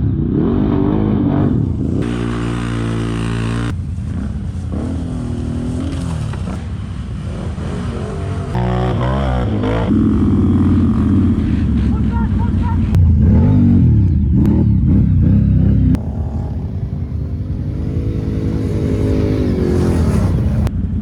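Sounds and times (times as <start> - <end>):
atv engines revving: 0.0 - 21.0.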